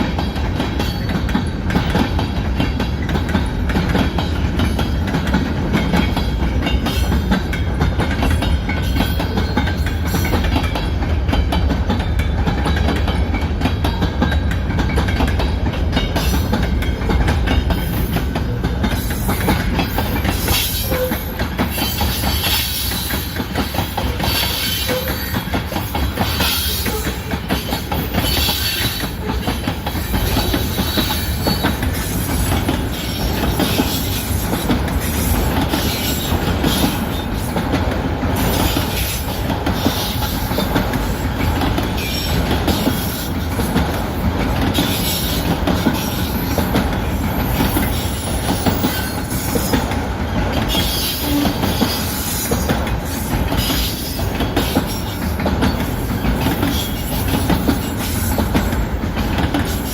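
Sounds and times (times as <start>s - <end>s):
train wheels clattering: 0.0s - 59.9s.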